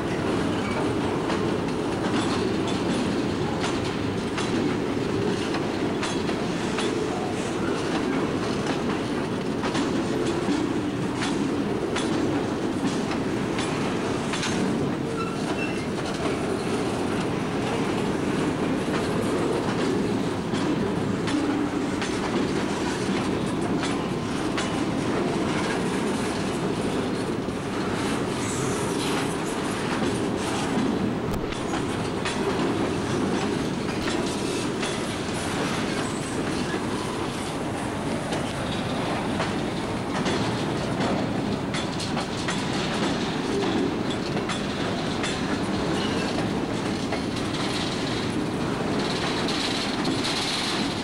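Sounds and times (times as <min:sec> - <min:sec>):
train wheels clicking over rail joints: 0:00.0 - 0:51.0.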